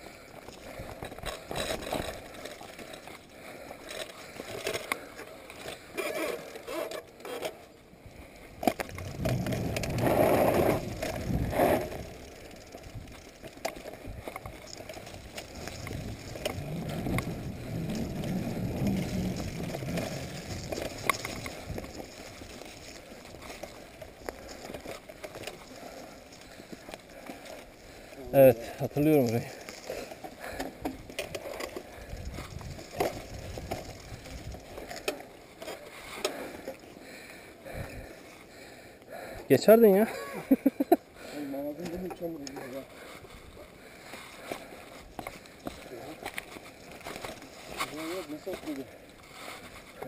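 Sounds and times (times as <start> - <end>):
bike rattling over bumps: 0.0 - 7.7, 8.4 - 38.6, 41.7 - 50.0
bike tyres rolling over soil: 0.0 - 38.8, 40.0 - 50.0.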